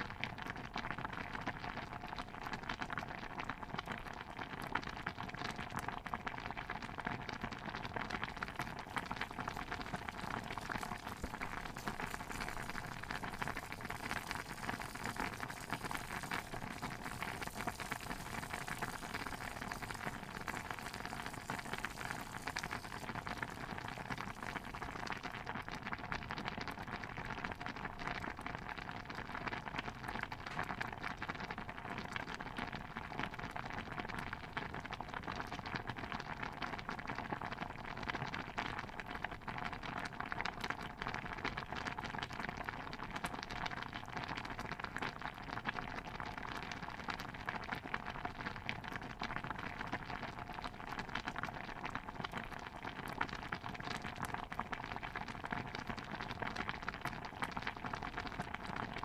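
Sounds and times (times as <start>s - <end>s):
stew bubbling in a pot: 0.0s - 59.0s.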